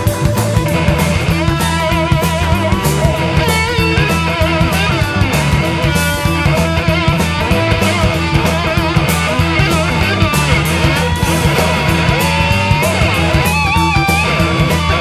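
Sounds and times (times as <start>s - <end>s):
bending lead guitar line: 0.0s - 15.0s
blues-rock band playing: 0.0s - 15.0s.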